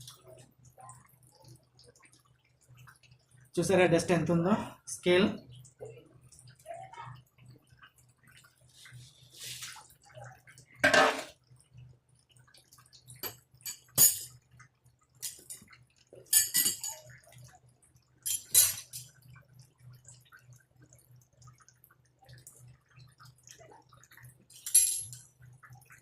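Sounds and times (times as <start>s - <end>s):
water splashing and dripping: 0.0s - 26.0s.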